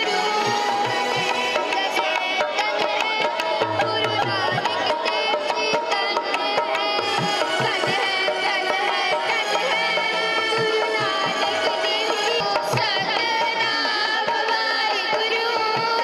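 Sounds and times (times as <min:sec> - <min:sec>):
tabla drumming: 0:00.0 - 0:16.0.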